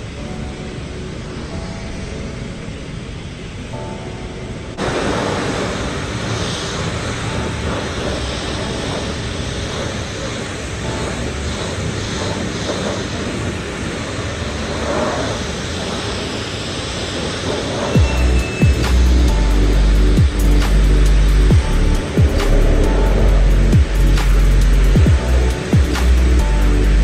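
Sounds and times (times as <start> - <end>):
pressure washer spraying water: 4.8 - 27.0.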